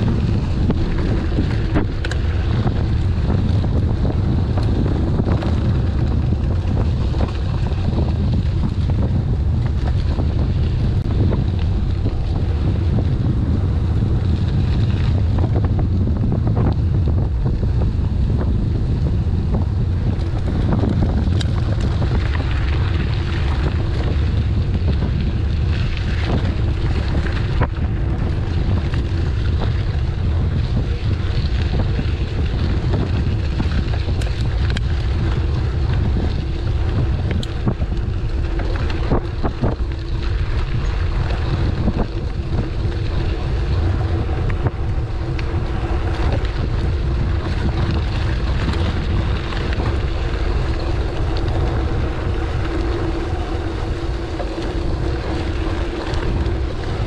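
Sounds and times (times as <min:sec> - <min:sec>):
faint constant hum: 0:00.0 - 0:57.0
wind buffeting microphone: 0:00.0 - 0:57.0.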